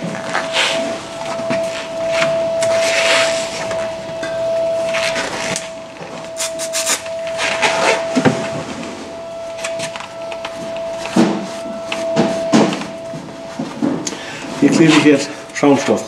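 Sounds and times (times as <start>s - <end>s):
steady thin whine: 0.0s - 16.0s.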